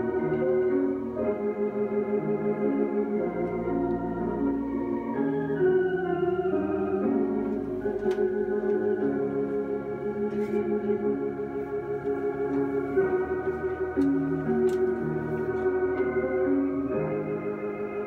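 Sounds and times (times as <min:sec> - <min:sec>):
organ playing slow chords: 0:00.0 - 0:18.0.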